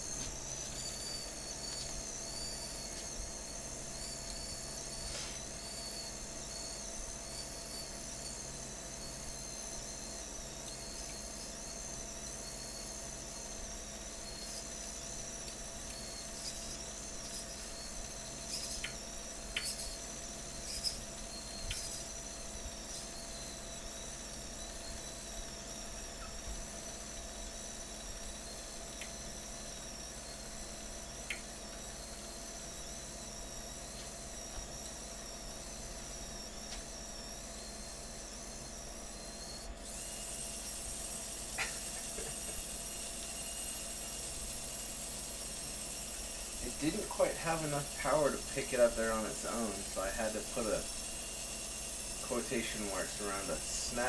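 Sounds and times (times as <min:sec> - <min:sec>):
winch motor whining: 0:00.0 - 0:54.0.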